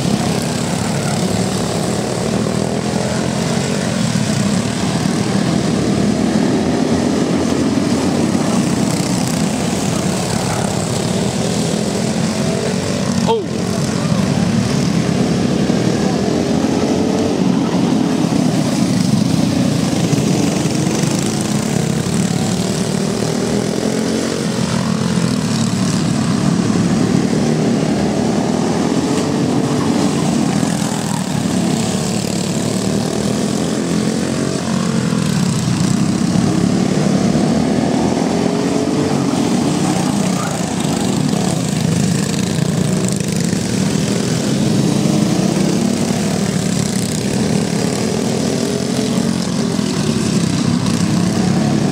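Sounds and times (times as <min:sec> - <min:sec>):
kart engines racing: 0:00.0 - 0:51.9.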